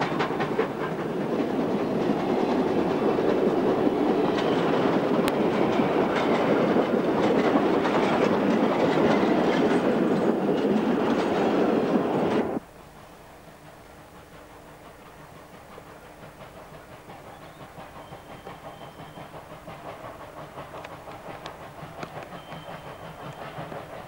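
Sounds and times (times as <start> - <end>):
train wheels clicking over rail joints: 0.0 - 24.0.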